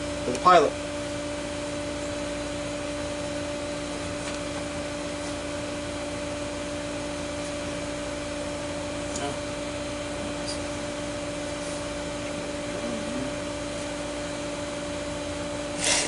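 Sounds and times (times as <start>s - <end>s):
electric motor hum: 0.0s - 16.0s.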